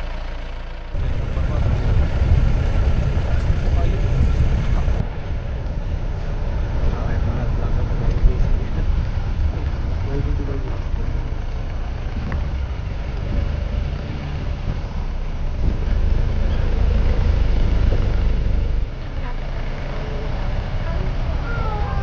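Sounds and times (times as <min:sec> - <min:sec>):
jeep engine and road rumble: 0:00.0 - 0:22.0.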